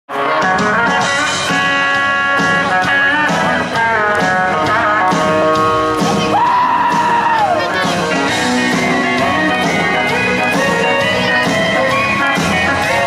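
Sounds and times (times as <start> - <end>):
country rock band playing: 0.1 - 13.0
electric guitar bending notes: 0.1 - 13.0.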